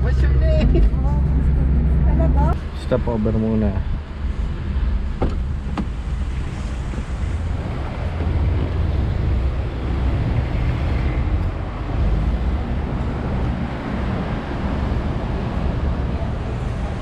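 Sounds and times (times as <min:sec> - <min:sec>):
vehicle noise: 0:00.0 - 0:17.0.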